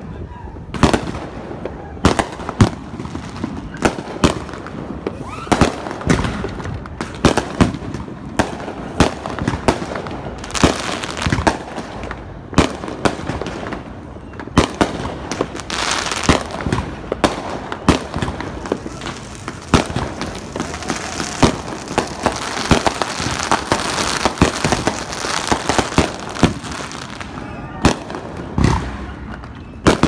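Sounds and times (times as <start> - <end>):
fireworks bangs: 0.6 - 30.0
fireworks crackling: 0.6 - 30.0.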